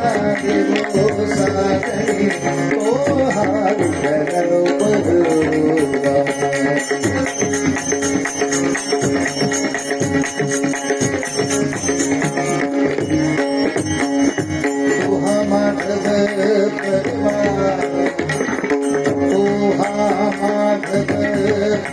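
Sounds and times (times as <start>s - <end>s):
jingling cymbals: 0.0s - 21.9s
sustained melody: 0.0s - 21.9s
wavering melodic line: 0.0s - 21.9s.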